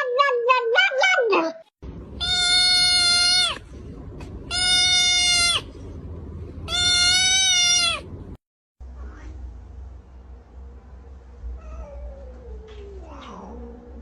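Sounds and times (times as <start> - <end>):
low background rumble: 1.8 - 14.0.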